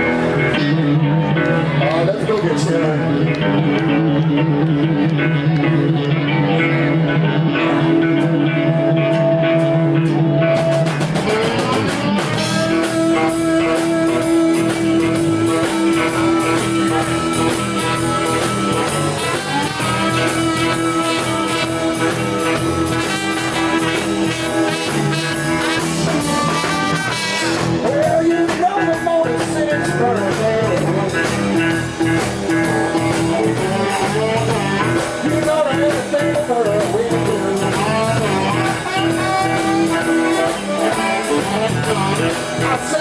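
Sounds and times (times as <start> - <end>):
blues-rock band playing: 0.0 - 43.0
drums: 0.0 - 43.0
electric guitar groove: 0.0 - 43.0.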